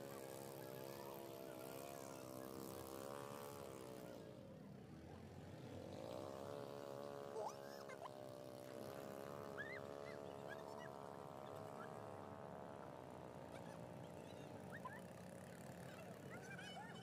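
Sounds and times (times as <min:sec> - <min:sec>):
small boat engine running: 0:00.0 - 0:17.0.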